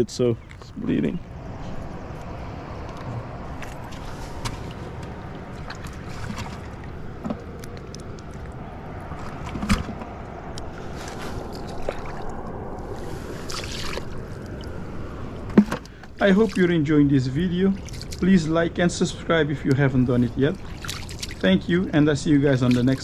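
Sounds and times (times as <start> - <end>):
outdoor rumble: 0.0 - 23.0.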